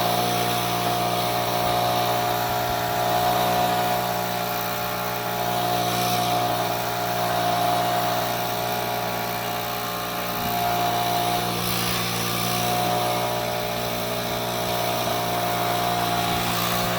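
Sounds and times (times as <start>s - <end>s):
high machine whine: 0.0s - 16.9s.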